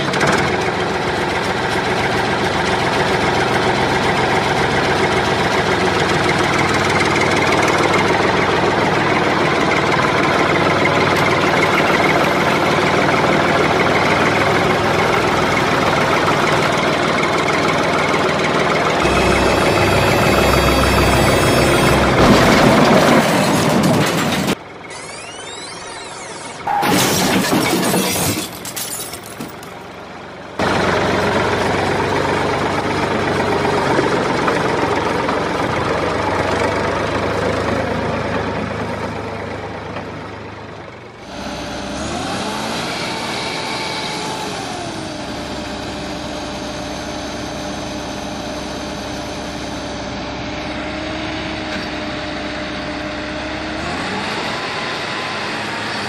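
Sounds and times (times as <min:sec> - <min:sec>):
engine rumbling and revving: 0:00.0 - 0:56.0.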